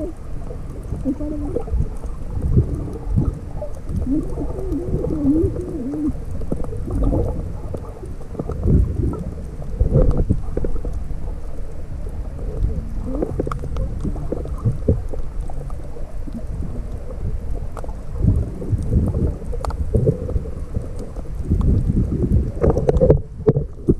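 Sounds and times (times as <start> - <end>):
water sloshing underwater: 0.0 - 23.9.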